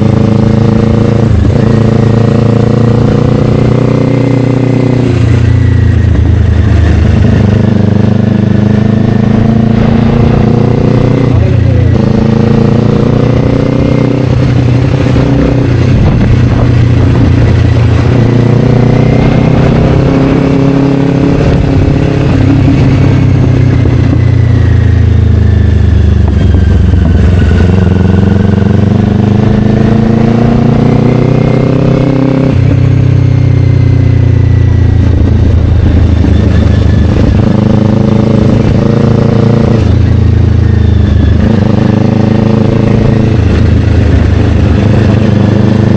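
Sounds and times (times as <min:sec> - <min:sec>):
motorcycle engine on the move: 0:00.0 - 0:45.9.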